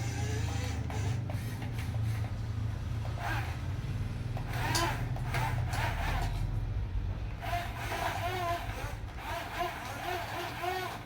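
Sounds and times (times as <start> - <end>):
toy electric motors humming: 0.0 - 6.8, 7.4 - 11.0.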